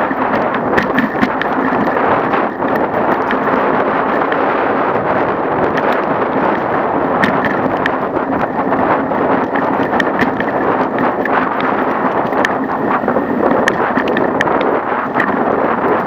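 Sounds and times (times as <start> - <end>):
sharp clicks and knocks: 0.0 - 4.4, 5.6 - 16.0
bicycle rumbling and rattling: 0.0 - 16.0
wind on microphone: 0.0 - 16.0.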